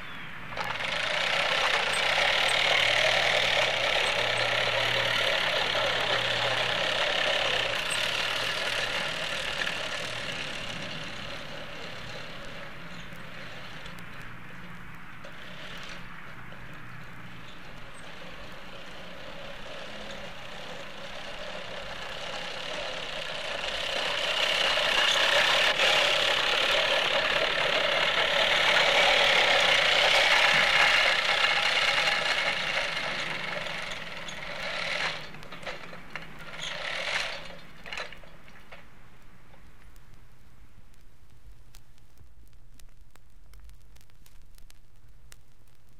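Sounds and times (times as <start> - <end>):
lawnmower engine running: 0.0 - 39.8.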